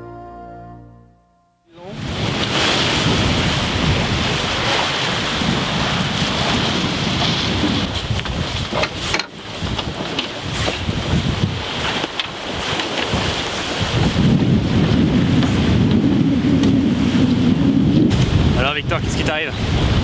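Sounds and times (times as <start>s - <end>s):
water rushing along hull: 1.8s - 20.0s
wind buffeting microphone: 1.9s - 20.0s.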